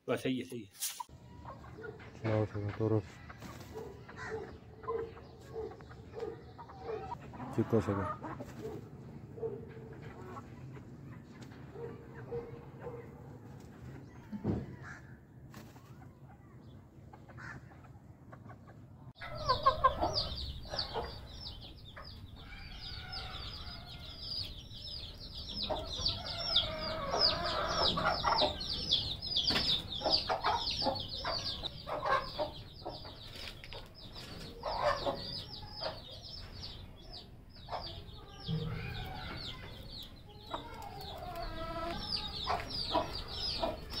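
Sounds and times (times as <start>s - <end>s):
chickens clucking: 1.0s - 44.0s.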